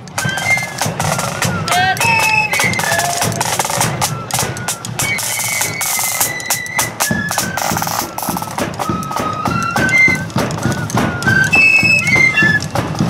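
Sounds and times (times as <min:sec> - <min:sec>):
flutes playing high melody: 0:00.0 - 0:13.0
side drums beating fast: 0:00.0 - 0:13.0.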